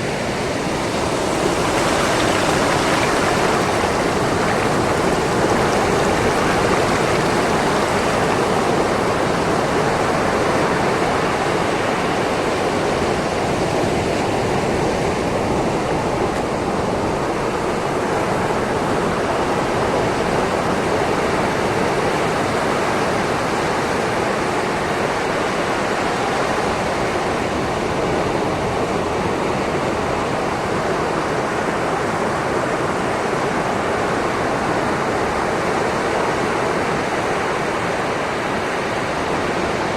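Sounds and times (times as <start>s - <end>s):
sea waves washing over shore: 0.0s - 39.9s.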